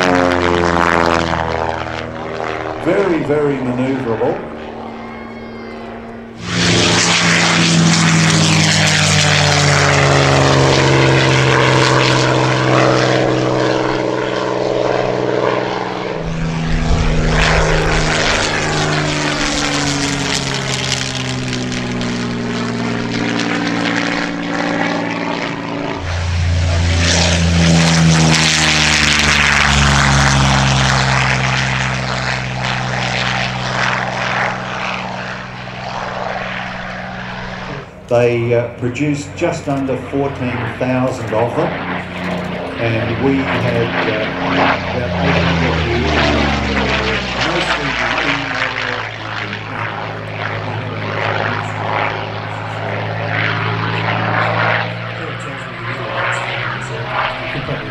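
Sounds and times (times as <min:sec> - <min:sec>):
propeller aircraft passing: 0:00.0 - 0:57.9.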